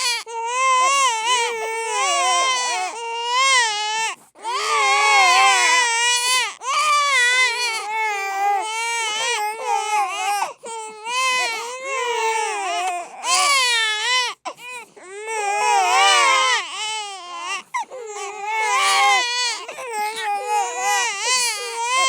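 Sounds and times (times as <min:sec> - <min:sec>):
babies crying and wailing: 0:00.0 - 0:22.0.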